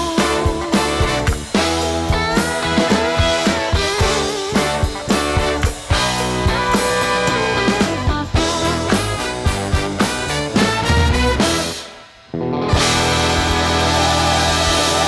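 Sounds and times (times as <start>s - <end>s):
upbeat rock instrumental: 0.0s - 15.0s.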